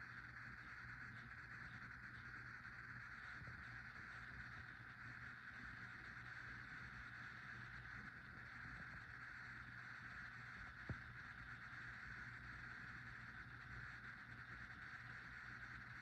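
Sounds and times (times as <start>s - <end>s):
ceiling fan air hiss: 0.0s - 16.0s.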